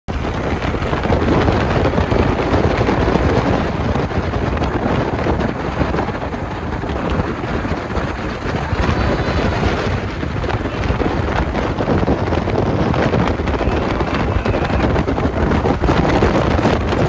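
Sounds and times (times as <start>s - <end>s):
engine and tyres rumbling: 0.1s - 17.0s
wind buffeting the microphone: 0.1s - 17.0s.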